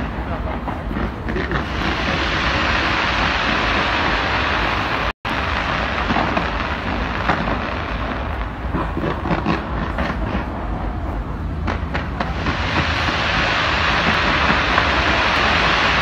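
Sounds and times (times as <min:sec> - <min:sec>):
fireworks barrage: 0:00.0 - 0:16.0.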